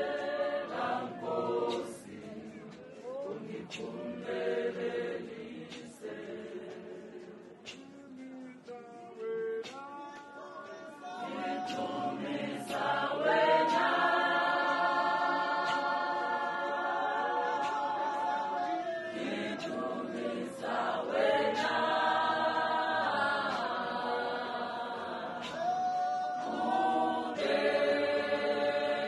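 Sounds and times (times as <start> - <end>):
women's choir singing: 0.0 - 29.0.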